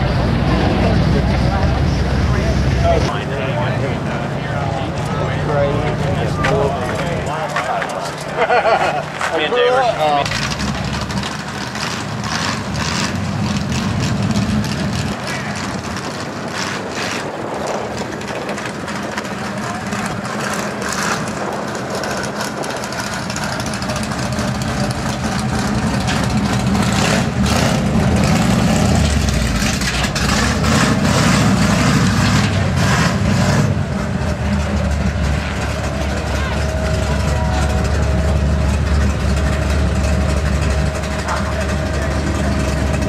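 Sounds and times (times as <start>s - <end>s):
pickup truck engine running: 0.0s - 43.0s.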